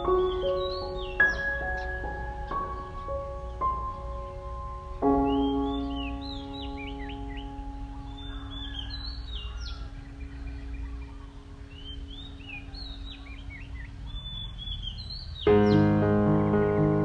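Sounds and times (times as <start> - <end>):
piano music: 0.0 - 13.5, 15.4 - 17.0
low rumble of background noise: 0.0 - 17.0
small birds chirping: 0.0 - 17.0.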